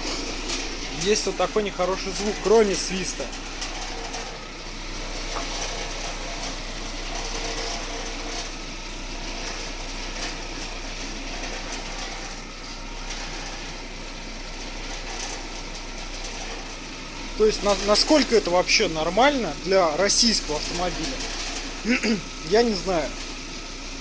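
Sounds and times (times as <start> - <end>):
car engine running: 0.0 - 24.0
rattling clatter underneath car: 0.0 - 24.0.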